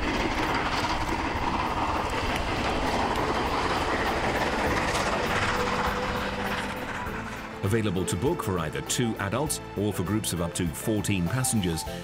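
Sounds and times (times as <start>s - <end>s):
steam train rumbling: 0.0s - 12.0s.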